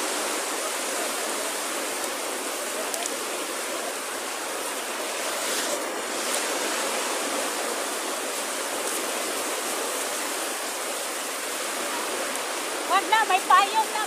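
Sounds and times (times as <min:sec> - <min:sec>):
small waves breaking on sand: 0:00.0 - 0:14.0.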